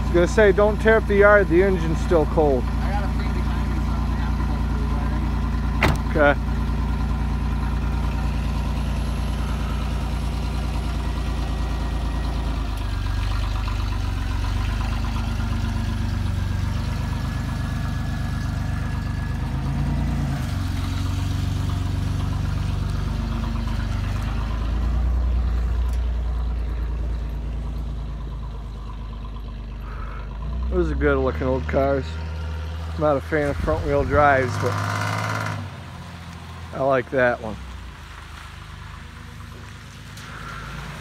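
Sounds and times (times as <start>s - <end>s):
car exhaust note: 0.0s - 36.2s.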